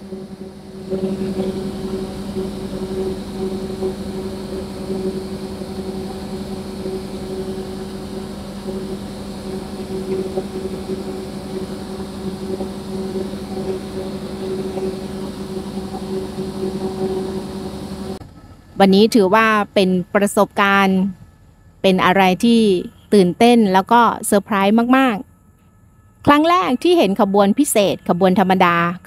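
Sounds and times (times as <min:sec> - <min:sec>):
diesel locomotive engine hum: 0:00.0 - 0:29.0.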